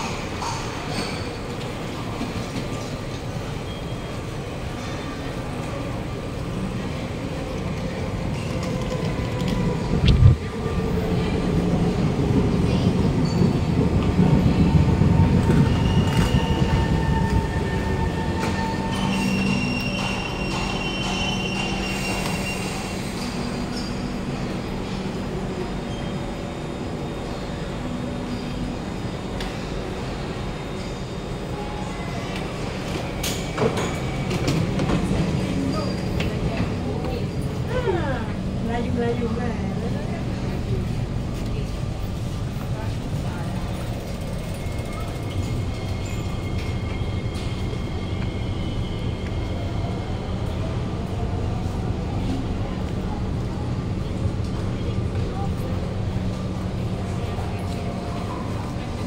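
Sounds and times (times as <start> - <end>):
metro train rumble: 0.0 - 59.0.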